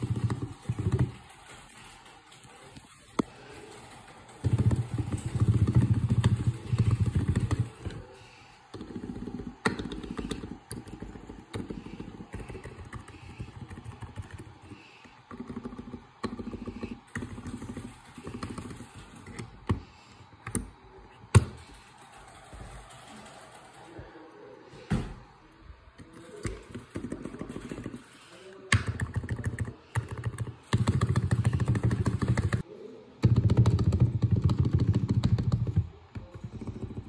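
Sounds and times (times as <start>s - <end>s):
keyboard typing clacks: 0.0s - 24.1s, 26.0s - 32.6s, 33.2s - 37.0s.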